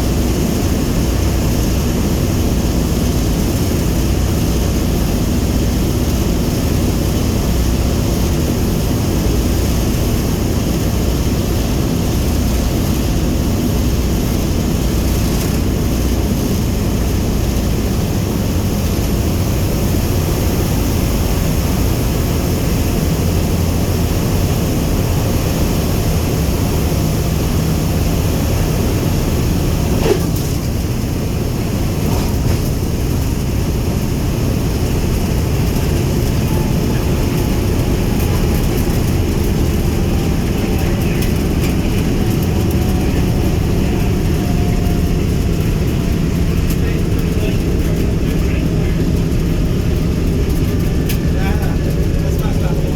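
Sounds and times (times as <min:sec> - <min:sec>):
propeller aircraft engines droning: 0:00.0 - 0:52.9.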